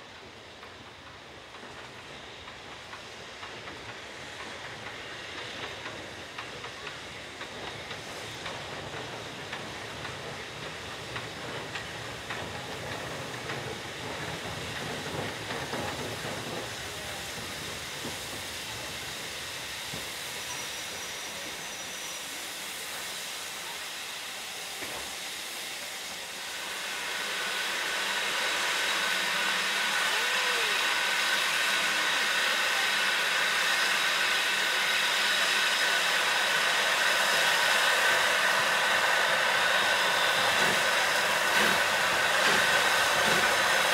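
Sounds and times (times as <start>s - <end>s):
loud steam hiss: 0.0s - 43.9s
steam locomotive wheels rumbling: 0.0s - 43.9s.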